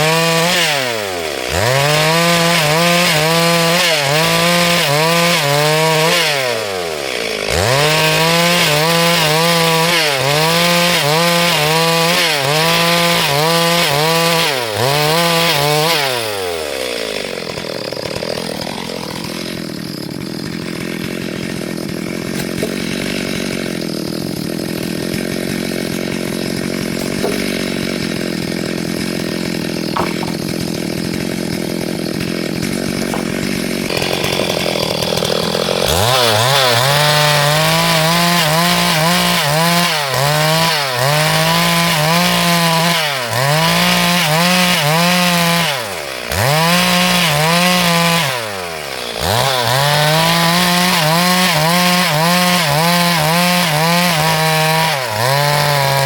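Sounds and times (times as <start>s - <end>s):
chainsaw cutting through a log: 0.0s - 56.0s.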